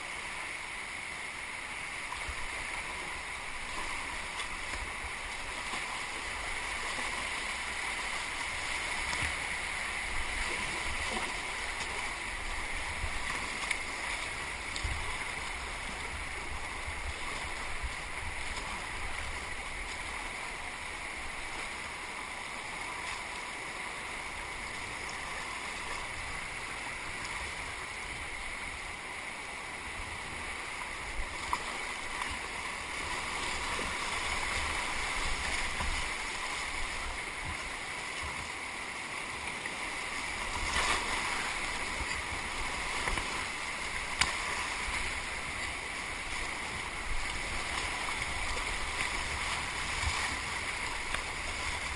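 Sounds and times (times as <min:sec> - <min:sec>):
river rapids rushing: 0:00.0 - 0:51.9
paddle splashing in water: 0:02.2 - 0:27.6, 0:30.9 - 0:51.9.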